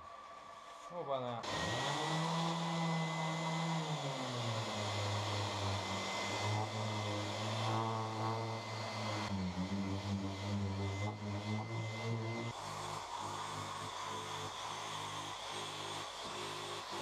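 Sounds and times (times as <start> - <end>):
orbital sander running: 1.4 - 17.0.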